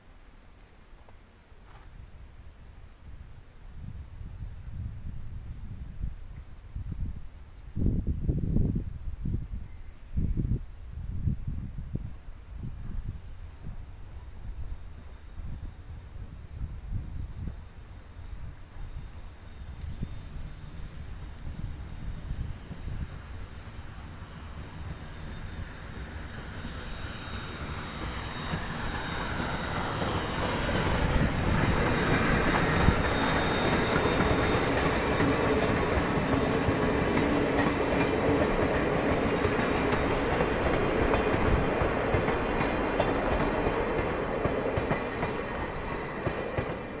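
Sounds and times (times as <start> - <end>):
steam locomotive and train rolling past: 3.0 - 47.0.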